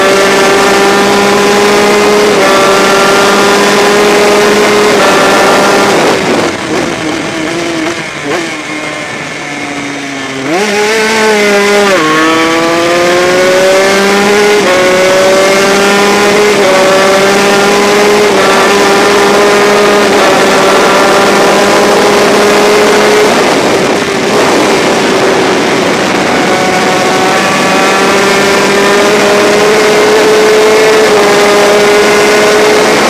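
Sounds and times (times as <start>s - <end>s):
two-stroke motorcycle engine revving: 0.0s - 33.0s
wind rushing over microphone: 0.0s - 33.0s.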